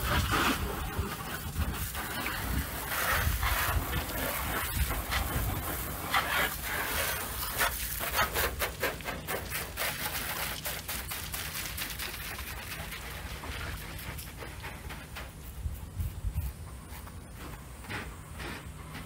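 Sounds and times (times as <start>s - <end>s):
hose spray hissing on car: 0.0s - 17.4s.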